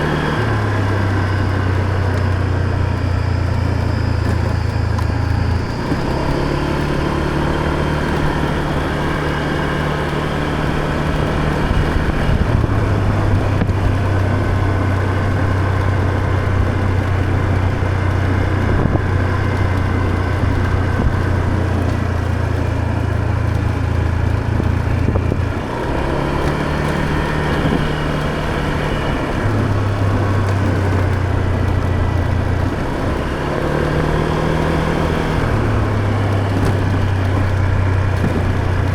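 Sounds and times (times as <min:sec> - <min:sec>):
scooter engine running: 0:00.0 - 0:38.9
wind and road noise: 0:00.0 - 0:38.9.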